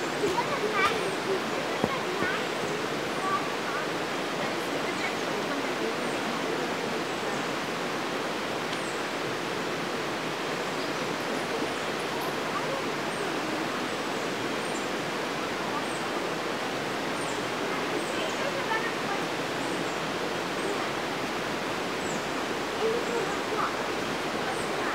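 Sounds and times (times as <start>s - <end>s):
river flowing over stones: 0.0s - 24.9s.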